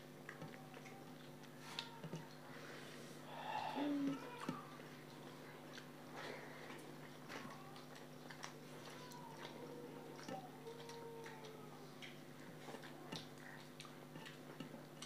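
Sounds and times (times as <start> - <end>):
quiet chewing with clicks: 0.0 - 2.8, 3.8 - 15.0.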